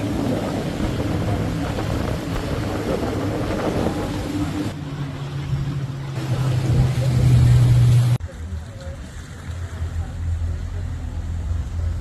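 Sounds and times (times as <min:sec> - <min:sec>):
boat motor humming: 0:00.0 - 0:12.0
rush of wind and water: 0:00.0 - 0:12.0.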